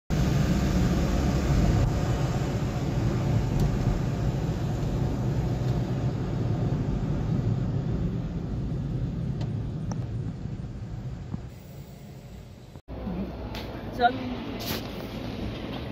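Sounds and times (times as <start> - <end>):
car engine and road rumble: 0.1 - 15.9.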